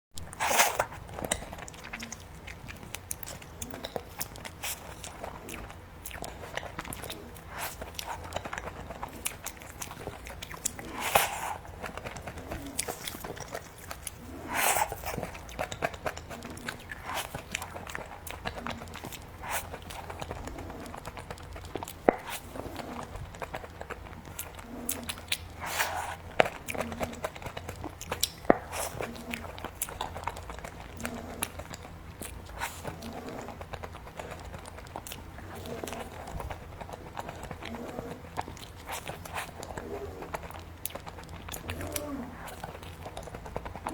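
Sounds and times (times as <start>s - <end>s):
person biting and chewing: 0.2s - 43.9s.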